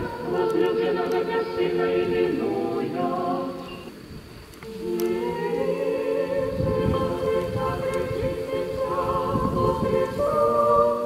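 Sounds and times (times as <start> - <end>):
choir singing unaccompanied: 0.0 - 11.0.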